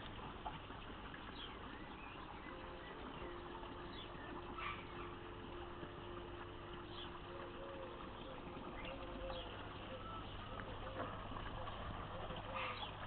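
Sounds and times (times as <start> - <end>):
steady low hum: 0.0 - 13.0
low repeated bird notes: 0.1 - 13.0.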